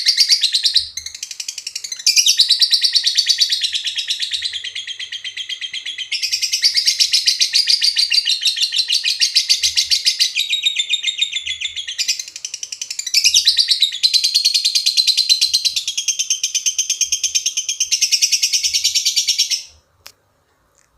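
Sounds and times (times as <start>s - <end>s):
bird chattering trill: 0.0s - 19.7s.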